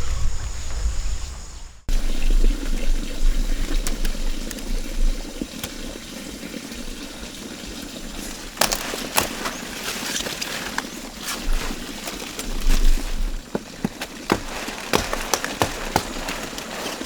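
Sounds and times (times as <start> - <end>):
water running and splashing: 1.9 - 17.0.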